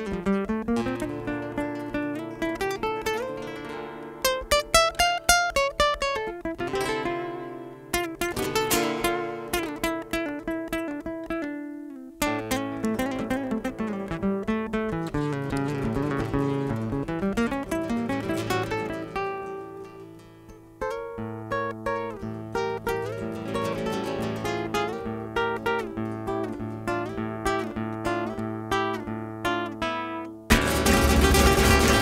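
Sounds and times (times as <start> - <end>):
acoustic guitars playing rumba: 0.0 - 32.0.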